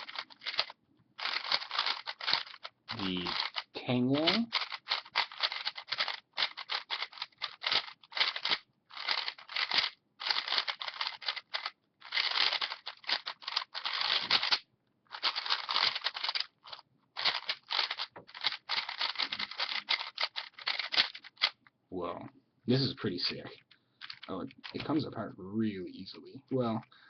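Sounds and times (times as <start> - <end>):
plastic cube clicking: 0.0 - 21.6, 24.0 - 24.8.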